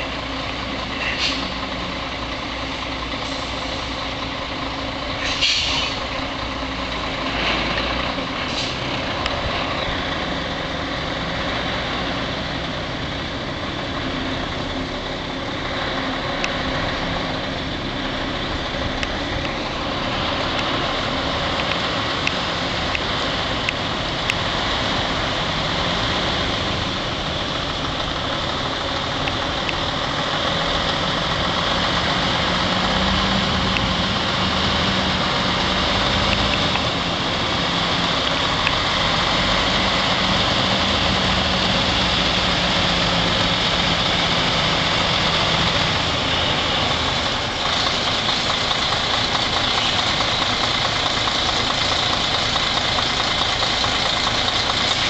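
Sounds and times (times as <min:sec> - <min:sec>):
truck diesel engine running slowly: 0:00.0 - 0:55.0.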